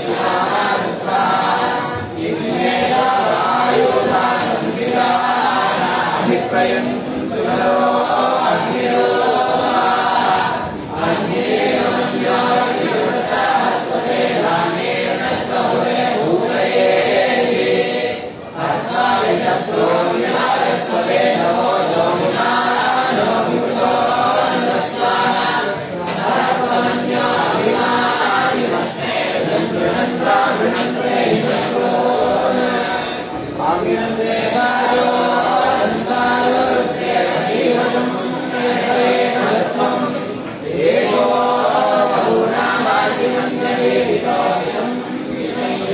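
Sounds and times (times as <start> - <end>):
group chanting hymns: 0.0 - 45.9.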